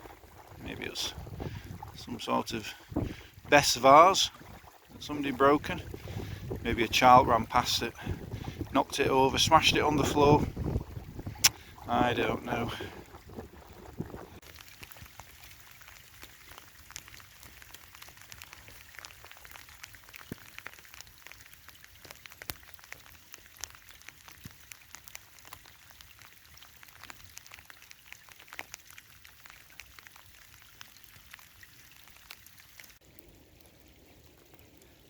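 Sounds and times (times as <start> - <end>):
light rain falling: 0.0 - 35.0
raindrops ticking: 0.0 - 35.0.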